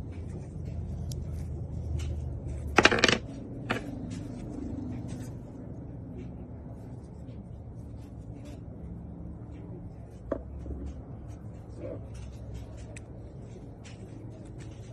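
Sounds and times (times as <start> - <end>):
low background hum: 0.0 - 14.9.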